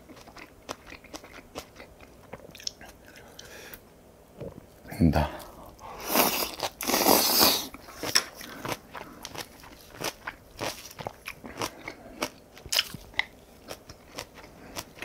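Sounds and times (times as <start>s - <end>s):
close-miked chewing: 0.0s - 3.6s, 5.4s - 15.0s.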